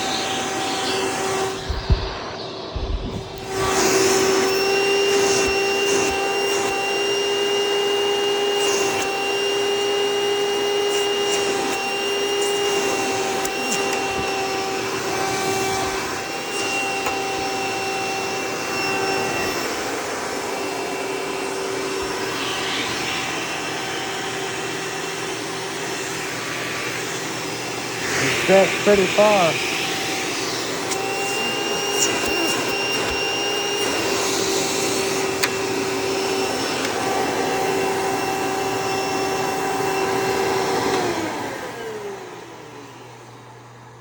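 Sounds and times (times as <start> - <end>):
vacuum cleaner motor whine: 0.0 - 44.0.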